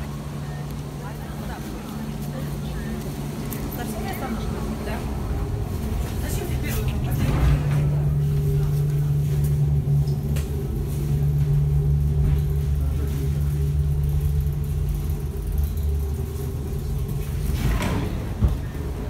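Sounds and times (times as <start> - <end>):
train interior hum and rumble: 0.0 - 19.0.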